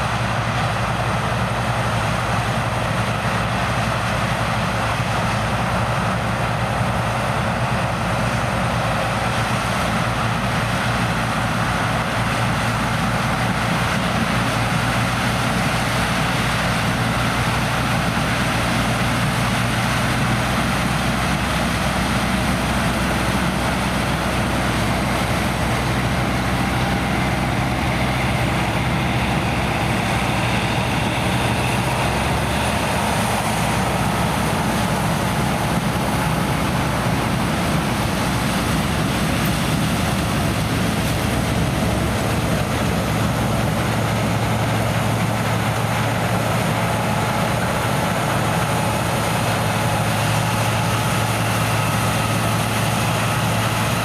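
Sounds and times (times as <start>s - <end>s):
diesel farm machinery engine: 0.0s - 54.0s.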